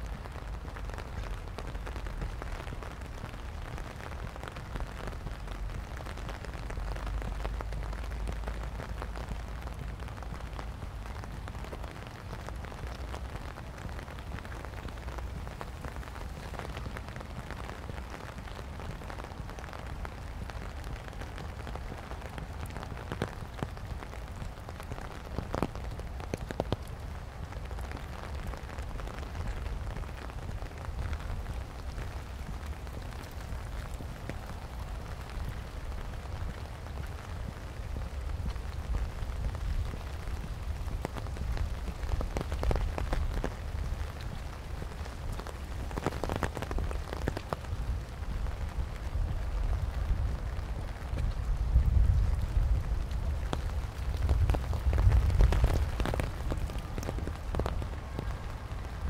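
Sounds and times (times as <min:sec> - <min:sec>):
rain pattering on pavement: 0:00.0 - 0:59.0
wind rumbling on microphone: 0:00.0 - 0:59.0.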